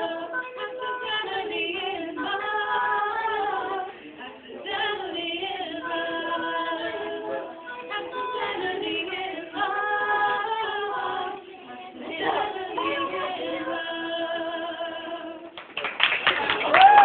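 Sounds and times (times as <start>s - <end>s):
group singing a cappella: 0.0s - 15.6s.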